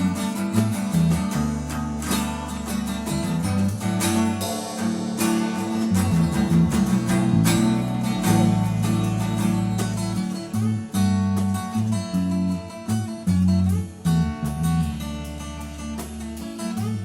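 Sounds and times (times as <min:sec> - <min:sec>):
bass guitar: 0:00.0 - 0:17.0
drum kit beat: 0:00.0 - 0:17.0
strummed guitar: 0:00.0 - 0:17.0.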